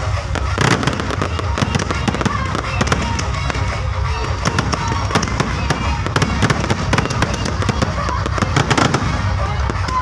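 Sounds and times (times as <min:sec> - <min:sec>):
fireworks crackling: 0:00.0 - 0:10.0.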